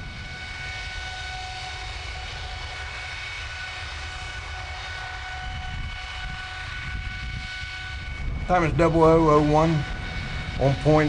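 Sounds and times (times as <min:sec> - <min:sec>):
high whining engine tones: 0:00.0 - 0:11.0
jet engine deep rumble: 0:00.0 - 0:11.0.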